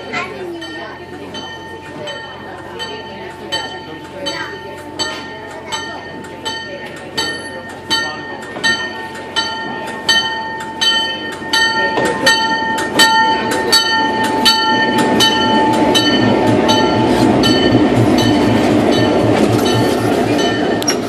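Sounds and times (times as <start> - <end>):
locomotive bell ringing: 0.0 - 21.0
diesel engine throbbing: 3.5 - 21.0.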